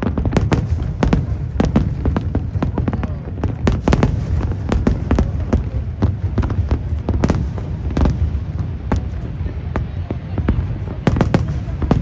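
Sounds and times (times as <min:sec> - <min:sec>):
distant explosions rumble: 0:00.0 - 0:12.0
fireworks sharp bangs: 0:00.0 - 0:12.0.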